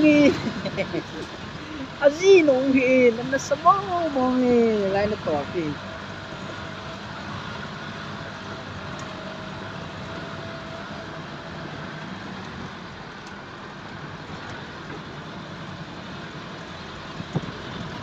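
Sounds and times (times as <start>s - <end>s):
car engine and tyres on dirt: 0.0s - 18.0s.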